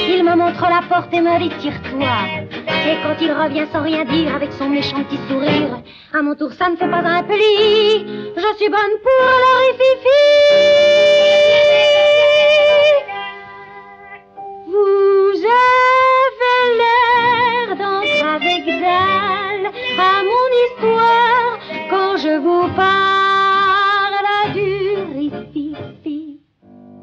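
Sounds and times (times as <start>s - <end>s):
instrumental accompaniment: 0.0s - 6.0s, 6.8s - 27.0s
woman singing cabaret song: 0.0s - 26.5s.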